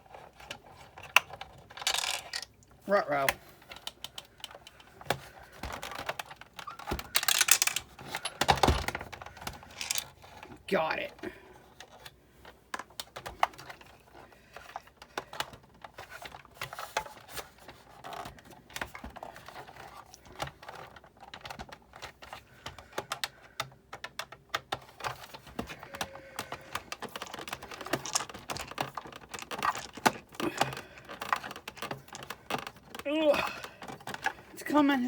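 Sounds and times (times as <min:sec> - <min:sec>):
plastic and metal parts clicking: 0:00.0 - 0:10.6, 0:11.7 - 0:34.5.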